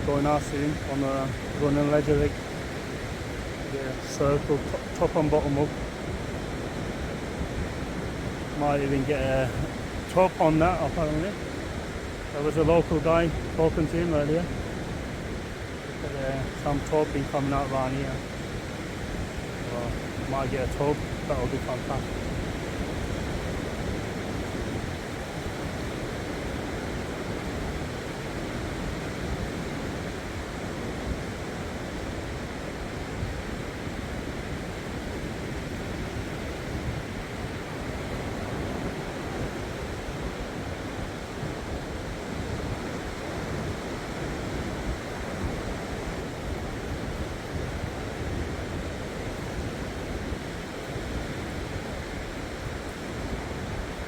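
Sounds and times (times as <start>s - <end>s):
sea surf on shore: 0.0s - 54.0s
wind buffeting microphone: 0.0s - 54.0s.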